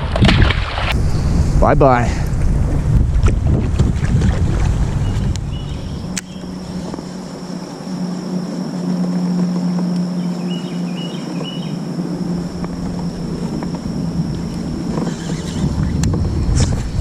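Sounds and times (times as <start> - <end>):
propeller drive whirring hum: 0.0 - 17.0.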